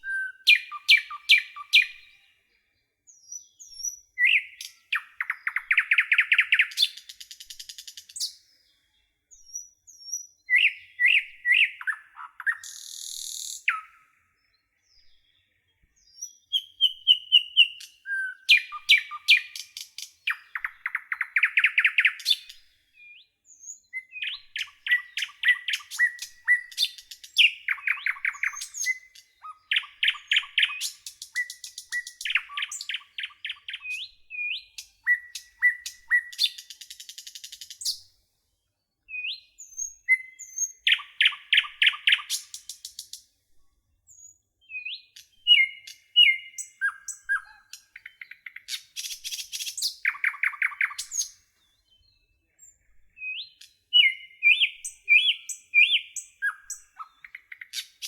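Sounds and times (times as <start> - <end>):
songbird singing trills: 0.0 - 38.1, 38.7 - 58.0.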